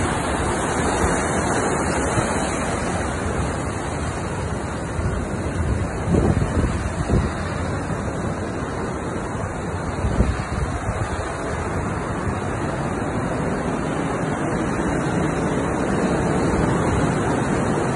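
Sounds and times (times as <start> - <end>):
surf washing onto beach: 0.0 - 17.9
wind buffeting microphone: 0.0 - 17.9.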